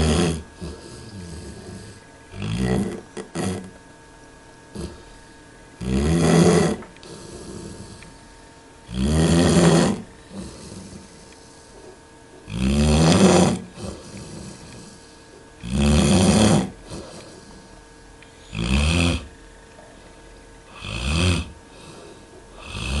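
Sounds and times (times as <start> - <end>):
dog snoring: 0.0 - 3.7, 4.7 - 5.2, 5.8 - 8.2, 8.9 - 17.8, 18.4 - 19.3, 20.7 - 23.0.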